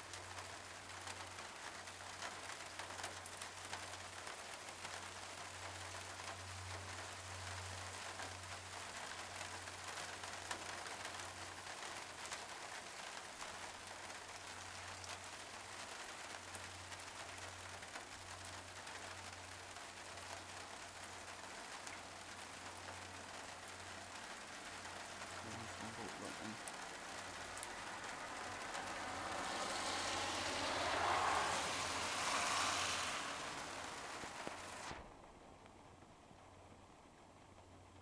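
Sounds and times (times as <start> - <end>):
raindrop ticks: 0.0 - 38.0
steady rainfall: 0.0 - 38.0.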